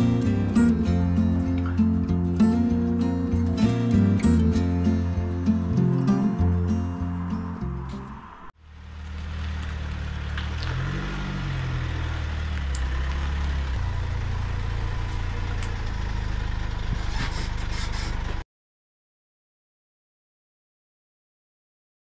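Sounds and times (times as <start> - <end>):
van engine idling and revving: 0.0 - 18.4.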